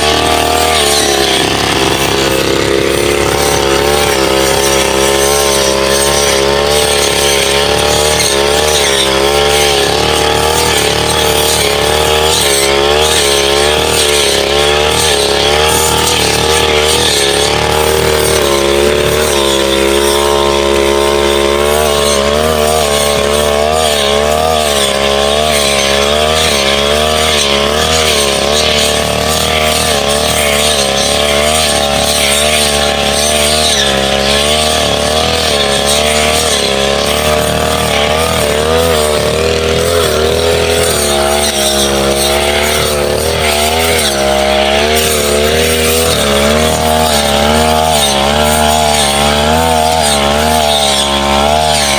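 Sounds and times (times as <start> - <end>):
brush cutter engine running: 0.0 - 51.9.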